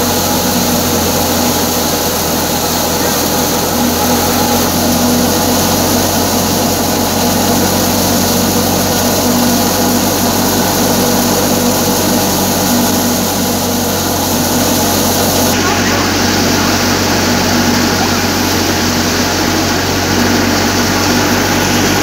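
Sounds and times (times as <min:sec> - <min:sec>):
thresher whirring: 0:00.0 - 0:22.0.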